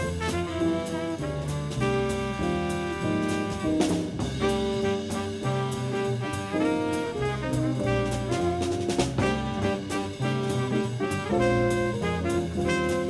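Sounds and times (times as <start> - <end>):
double bass line: 0.0 - 13.0
drum kit with cymbal strokes: 0.0 - 13.0
saxophone: 0.0 - 13.0
trumpet: 0.0 - 13.0.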